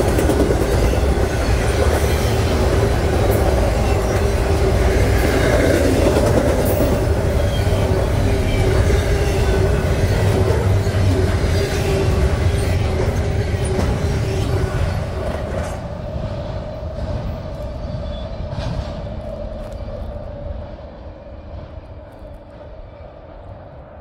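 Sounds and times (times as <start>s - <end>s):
freight train wheels clattering: 0.0s - 24.0s.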